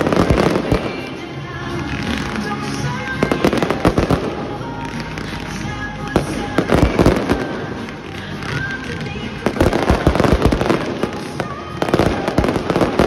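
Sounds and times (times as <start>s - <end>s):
fireworks exploding: 0.0s - 13.0s
music: 0.0s - 13.0s.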